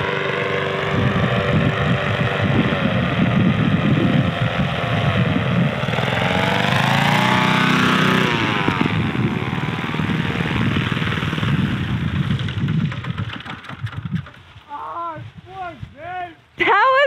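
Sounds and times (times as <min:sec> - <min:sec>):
paramotor engine: 0:00.0 - 0:14.5.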